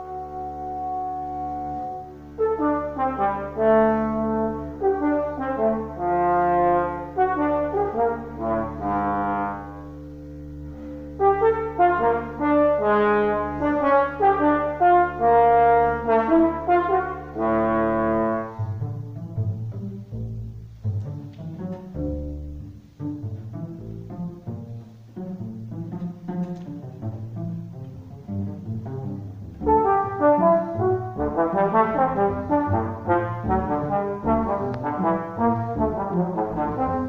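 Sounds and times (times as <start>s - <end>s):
slide trombone melody: 0.0s - 26.3s, 27.0s - 37.0s
double bass bowing low notes: 0.0s - 37.0s.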